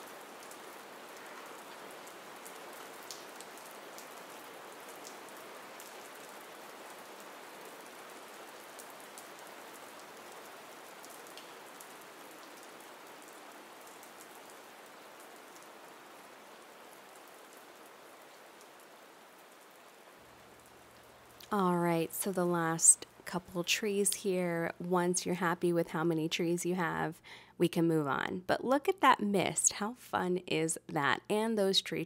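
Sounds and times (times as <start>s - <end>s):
steady rain: 0.0s - 28.8s.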